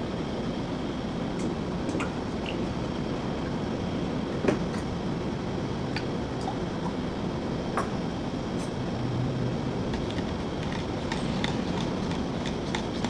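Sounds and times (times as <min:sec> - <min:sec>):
coffee bar machinery noise: 0:00.0 - 0:13.0.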